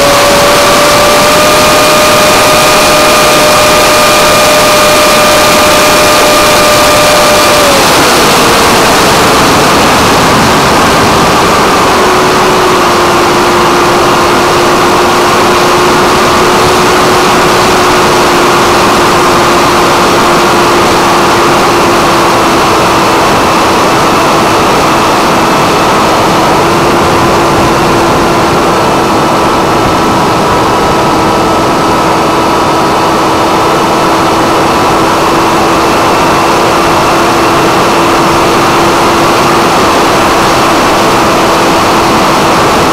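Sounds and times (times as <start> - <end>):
electric motor and propeller drone: 0.0 - 42.9
wind rush on microphone: 0.0 - 42.9.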